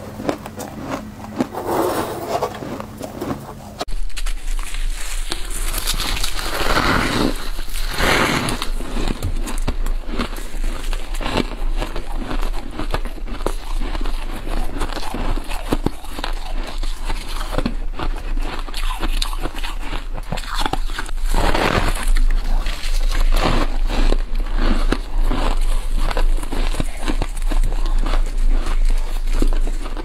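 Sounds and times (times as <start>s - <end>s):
frost crunching as chewed: 0.0s - 30.0s
steady low hum: 0.0s - 30.0s
frost crinkling in gloved hands: 3.9s - 30.0s.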